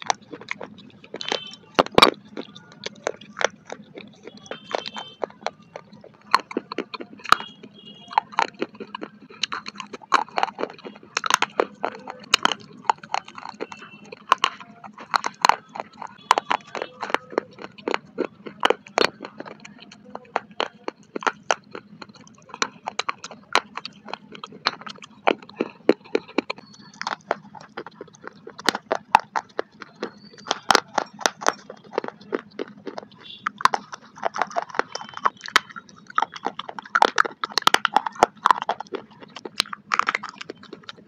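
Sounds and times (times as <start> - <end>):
clay chunks crunching when chewed: 0.0 - 41.0.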